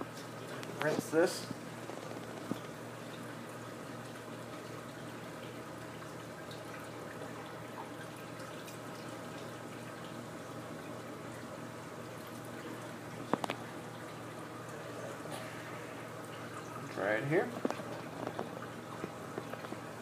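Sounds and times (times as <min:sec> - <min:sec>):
water trickling into a bowl: 0:00.0 - 0:20.0.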